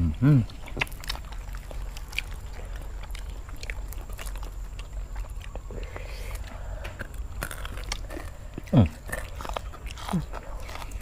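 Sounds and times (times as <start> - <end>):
low steady rumble: 0.0 - 11.0
people chewing crisp food: 0.0 - 11.0.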